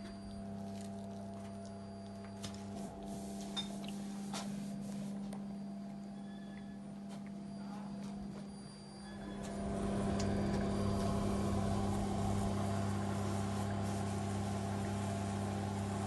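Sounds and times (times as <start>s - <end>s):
fan electric hum: 0.0s - 16.0s.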